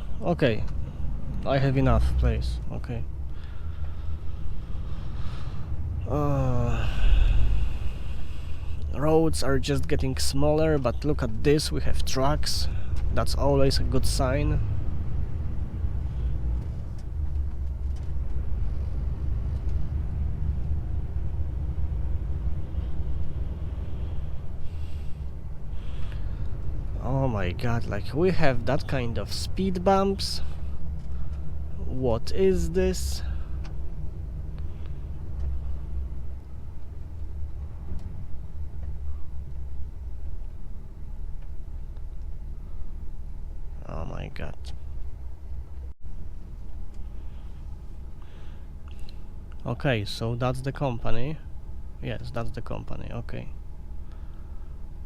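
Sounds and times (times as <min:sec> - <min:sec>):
truck diesel engine and road noise: 0:00.0 - 0:55.0.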